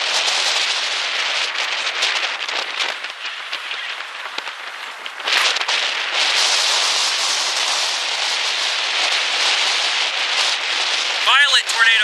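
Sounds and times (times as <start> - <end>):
wind and rain rushing hiss: 0.0 - 12.0.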